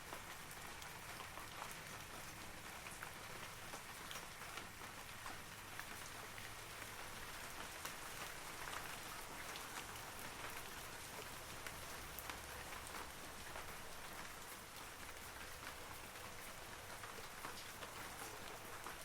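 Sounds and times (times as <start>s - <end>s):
rain on forest trees: 0.0s - 19.0s.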